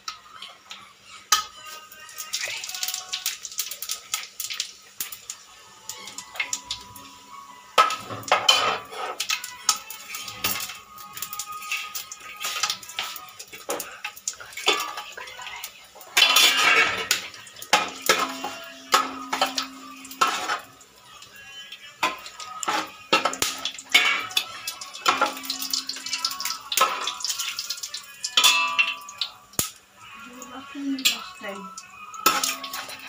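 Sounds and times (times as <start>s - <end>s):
metal utensils clinking on a pot: 0.0s - 5.2s, 7.8s - 20.8s, 21.8s - 33.0s.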